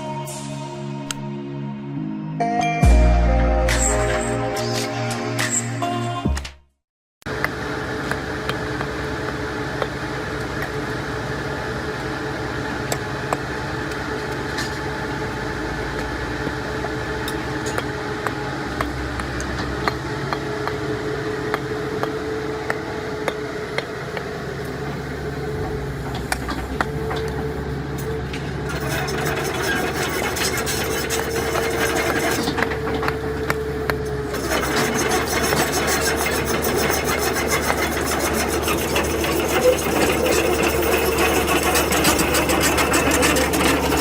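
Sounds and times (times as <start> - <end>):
machinery humming: 7.3 - 44.0.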